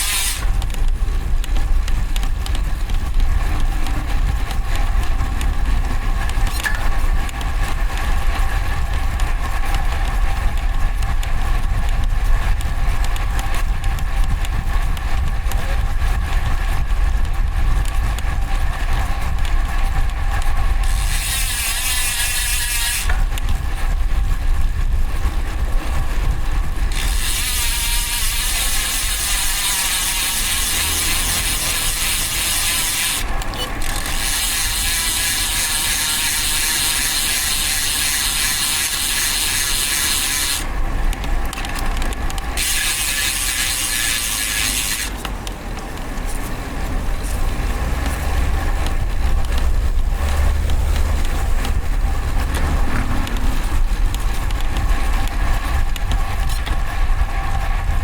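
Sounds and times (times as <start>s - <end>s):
bicycle freewheel buzzing: 0.0s - 45.3s, 48.8s - 58.0s
wind and road rumble: 0.0s - 58.0s.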